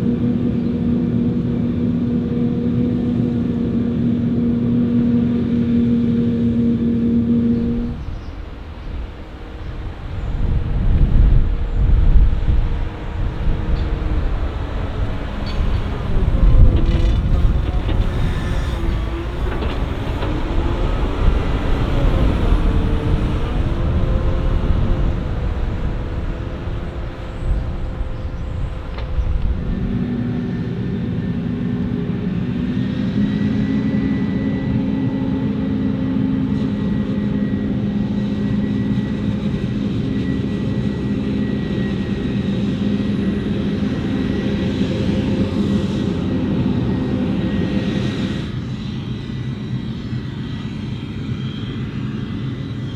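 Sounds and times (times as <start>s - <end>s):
heavy diesel machinery running: 0.0s - 52.9s
high whine: 0.0s - 52.9s.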